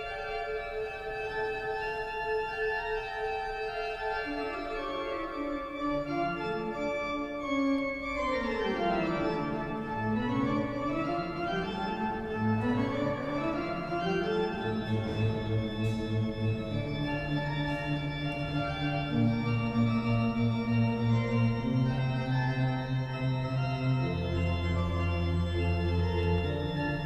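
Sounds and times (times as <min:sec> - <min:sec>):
sustained organ-like keyboard tones: 0:00.0 - 0:27.0.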